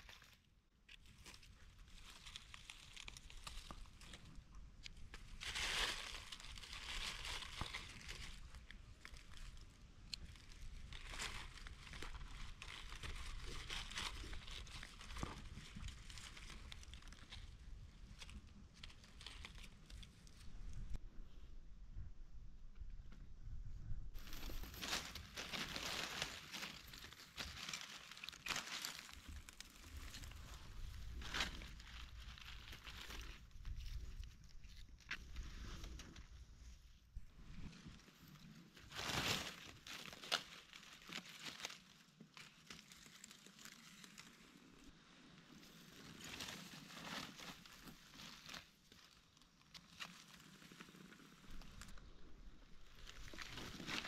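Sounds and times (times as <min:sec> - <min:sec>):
dry leaves and twigs rustling: 0:00.0 - 0:21.0, 0:24.2 - 0:54.0.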